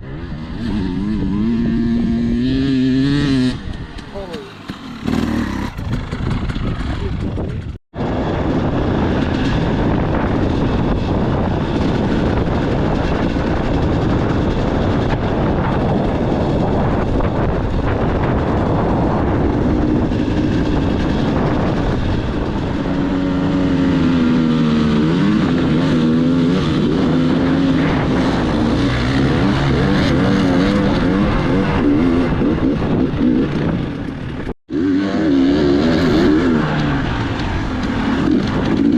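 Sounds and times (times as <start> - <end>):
dirt bike engine: 0.0 - 38.9.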